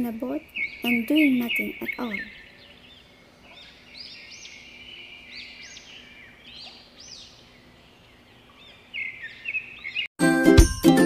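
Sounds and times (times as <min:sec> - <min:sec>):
birds chirping: 0:00.0 - 0:10.1.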